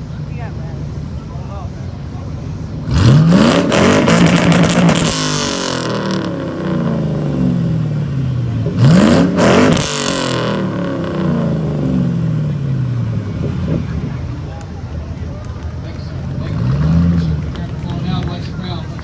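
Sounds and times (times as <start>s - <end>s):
car engine revving: 0.0s - 19.0s
exhaust rasping crackle: 2.0s - 19.0s.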